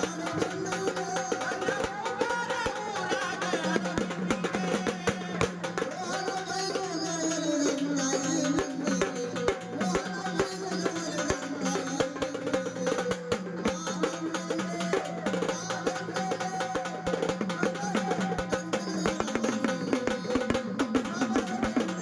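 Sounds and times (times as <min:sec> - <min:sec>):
hand drum strokes: 0:00.0 - 0:22.0.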